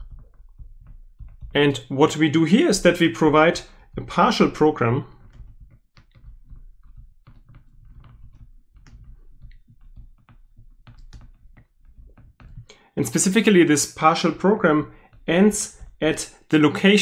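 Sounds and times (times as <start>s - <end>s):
stylus tapping on a screen: 0.0s - 17.0s.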